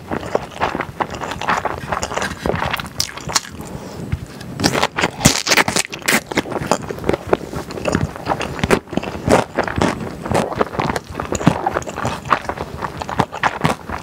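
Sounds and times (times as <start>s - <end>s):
wet chewing mouth sounds: 0.0s - 14.0s.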